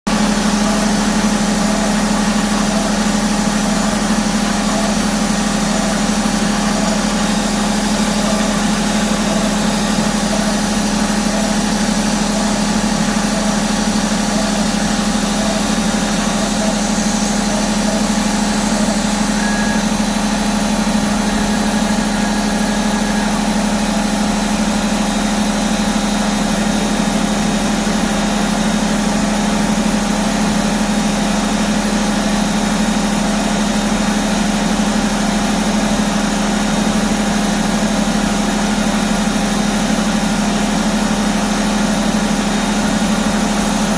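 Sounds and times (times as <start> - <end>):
milling machine humming: 0.1 - 43.9.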